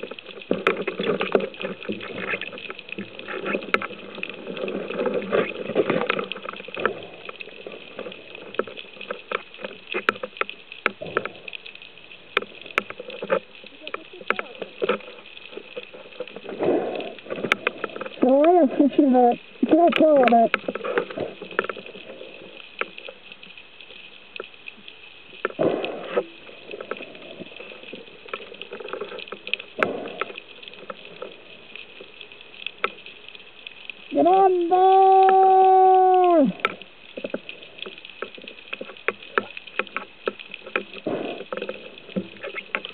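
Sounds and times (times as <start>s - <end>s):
underwater rushing and bubbling: 0.0s - 42.9s.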